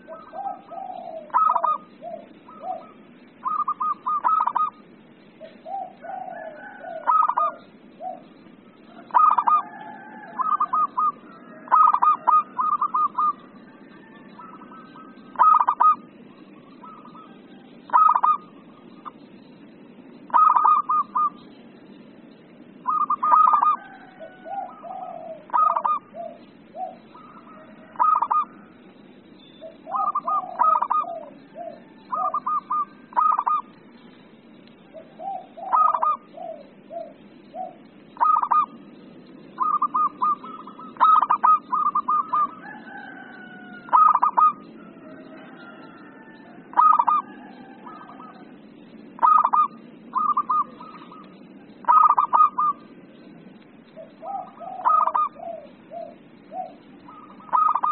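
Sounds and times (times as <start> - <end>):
dove cooing: 0.0 - 34.0, 34.8 - 57.9.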